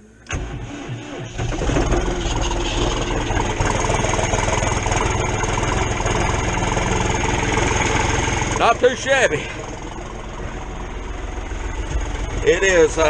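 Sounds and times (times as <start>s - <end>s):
diesel tractor engine starting: 0.0s - 13.0s.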